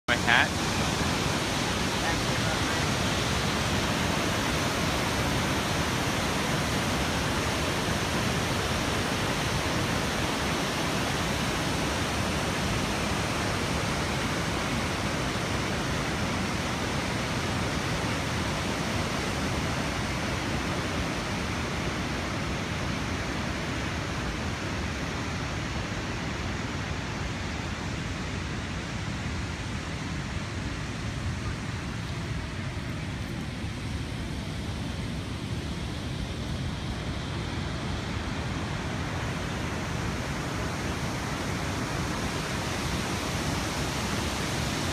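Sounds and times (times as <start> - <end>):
waterfall rushing: 0.1 - 44.9.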